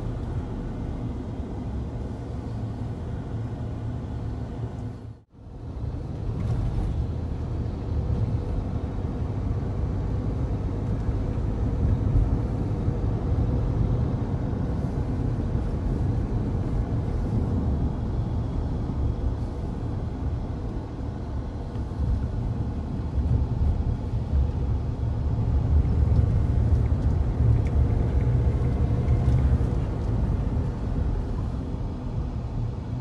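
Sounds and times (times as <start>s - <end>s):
car cabin rumble on rough road: 0.0s - 33.0s.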